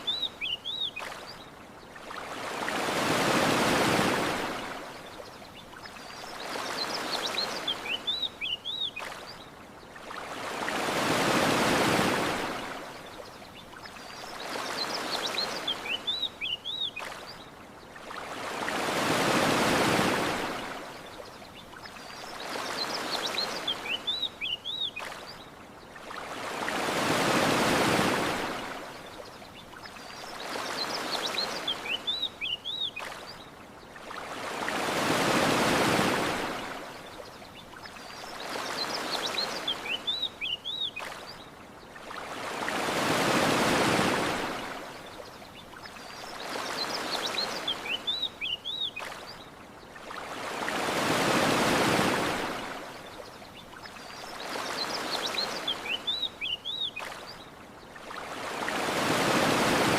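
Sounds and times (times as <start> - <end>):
ocean waves breaking ashore: 0.0 - 59.9.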